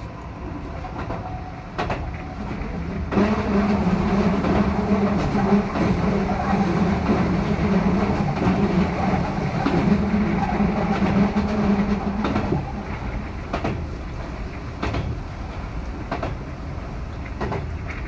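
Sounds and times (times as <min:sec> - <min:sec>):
electric train hum: 0:00.0 - 0:18.0
train rolling noise: 0:00.0 - 0:18.0.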